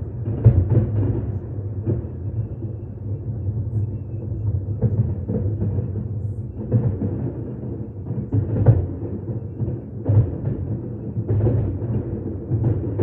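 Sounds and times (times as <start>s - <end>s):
fireworks booming: 0.0s - 2.8s, 4.4s - 13.0s
fireworks rumble: 0.0s - 13.0s.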